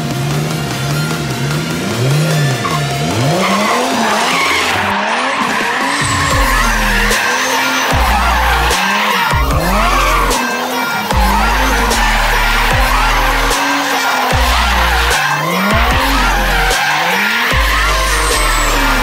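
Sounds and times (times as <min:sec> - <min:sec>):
car engine revving: 0:00.0 - 0:19.0
tyres squealing: 0:01.8 - 0:19.0.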